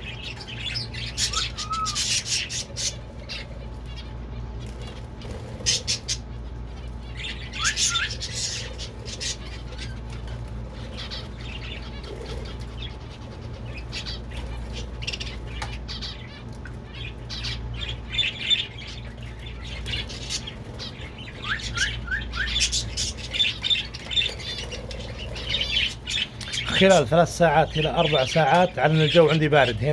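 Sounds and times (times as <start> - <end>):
caged birds chirping and squawking: 0.0 - 29.9.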